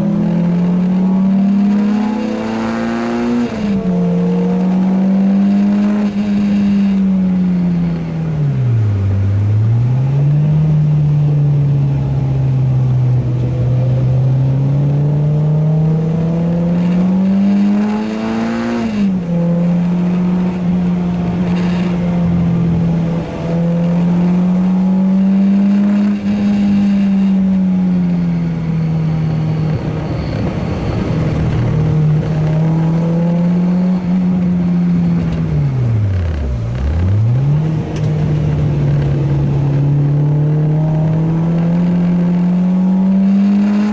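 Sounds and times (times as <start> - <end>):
car engine running hard: 0.0 - 43.9.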